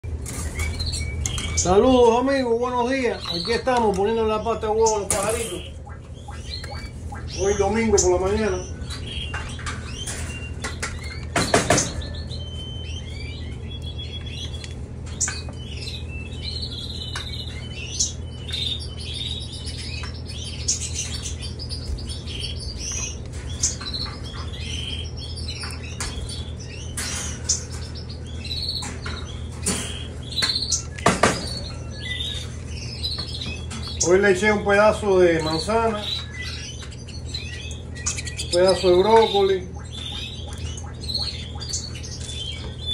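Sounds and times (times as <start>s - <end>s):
canaries chirping: 0.0s - 42.9s
steady low hum: 0.0s - 42.9s.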